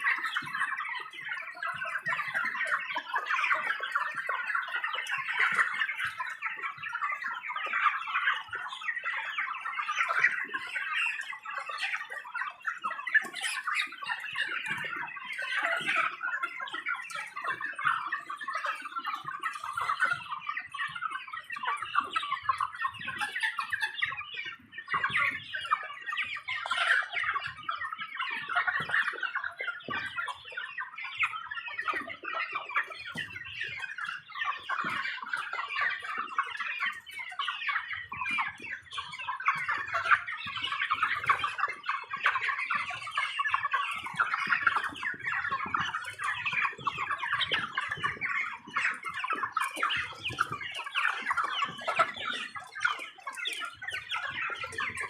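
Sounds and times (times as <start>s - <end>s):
flock of chickens clucking: 0.0s - 55.0s.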